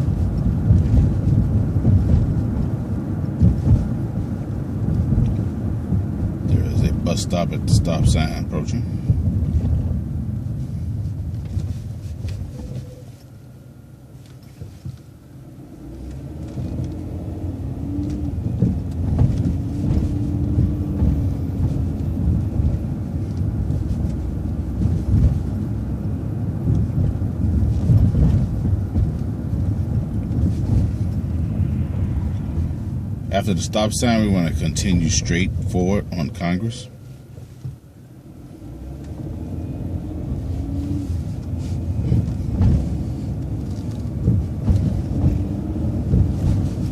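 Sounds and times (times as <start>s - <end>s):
bus driving with low rumble: 0.0s - 46.9s.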